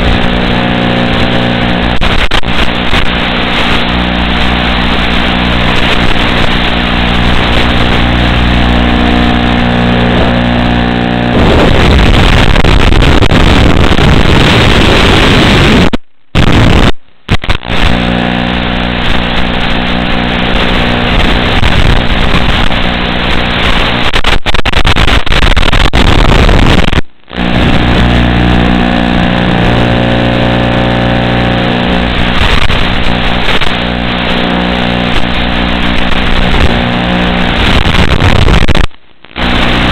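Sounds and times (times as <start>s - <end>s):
rough static hiss: 0.0s - 39.9s.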